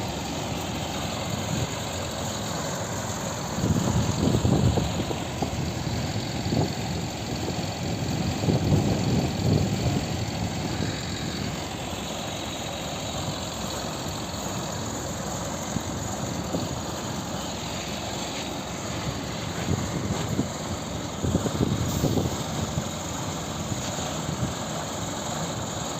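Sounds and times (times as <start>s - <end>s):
crane engine rumbling: 0.0s - 25.9s.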